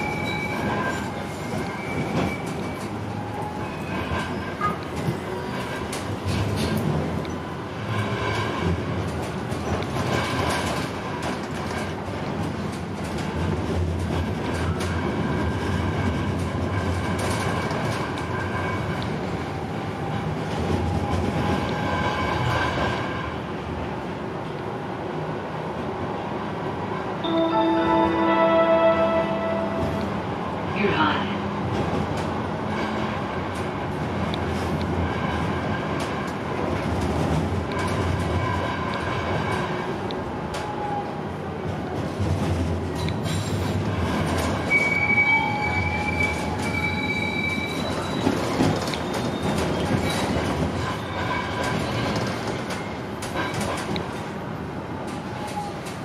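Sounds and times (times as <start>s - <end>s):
tram rumbling on track: 0.0s - 56.0s.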